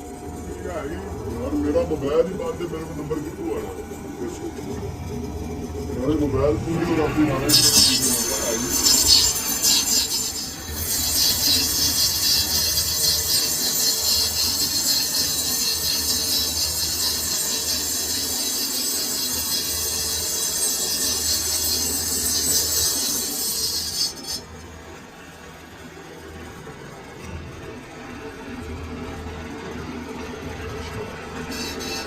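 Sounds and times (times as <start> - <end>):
lathe tool cutting steel screech: 0.0 - 25.2, 31.2 - 32.0
lathe running hum: 0.0 - 32.0.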